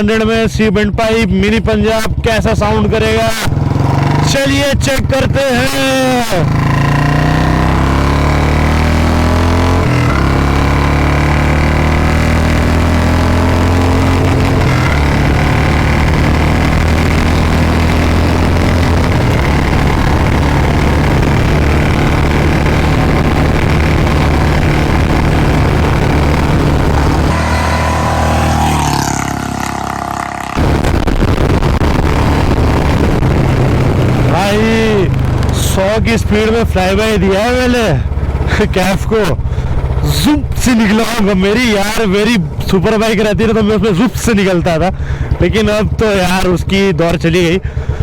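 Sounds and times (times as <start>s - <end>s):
motorcycle engine accelerating: 0.0s - 48.0s
gear shifts: 1.4s - 48.0s.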